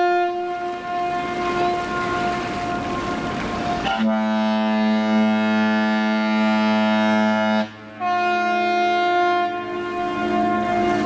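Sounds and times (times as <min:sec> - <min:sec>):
higher-pitched horn: 0:00.0 - 0:11.0
low-pitched ship's horn blast: 0:00.0 - 0:11.0.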